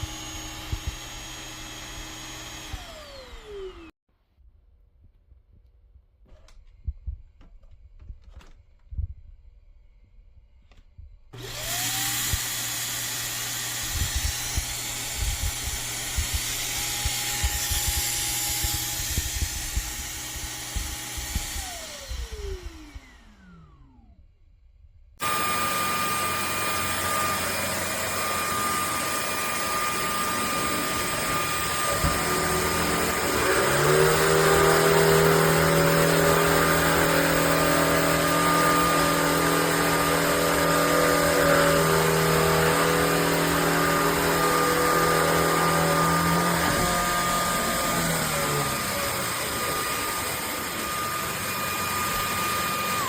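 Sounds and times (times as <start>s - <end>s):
steady motor sound: 0.0s - 3.9s, 11.4s - 24.1s, 25.2s - 53.0s
vacuum cleaner motor whining: 0.0s - 4.0s, 11.4s - 24.2s, 25.2s - 53.0s.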